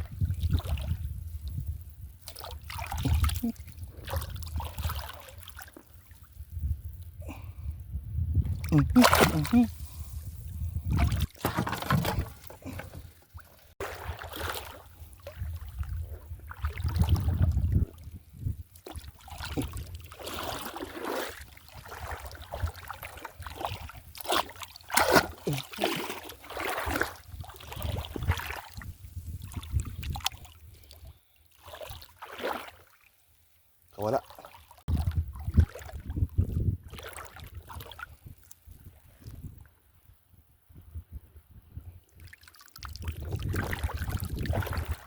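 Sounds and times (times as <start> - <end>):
shallow water sloshing and splashing: 0.0 - 7.5, 8.5 - 39.7, 42.2 - 45.0.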